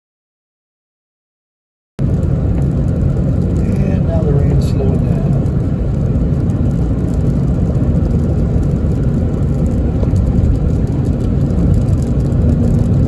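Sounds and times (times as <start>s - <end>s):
car driving on wet road: 2.0s - 13.0s.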